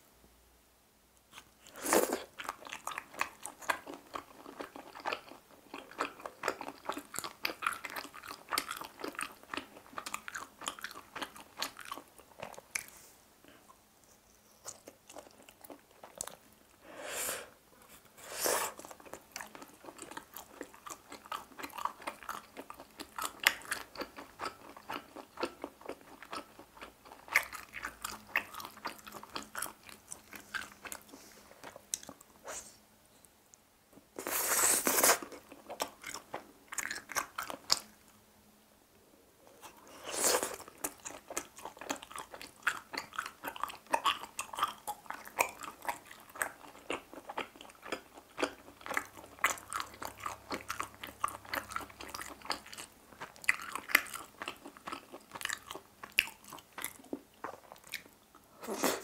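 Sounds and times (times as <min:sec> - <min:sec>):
close-up wet chewing: 0:01.3 - 0:13.7, 0:14.6 - 0:16.8, 0:18.7 - 0:32.3, 0:34.8 - 0:38.1, 0:39.6 - 0:59.0.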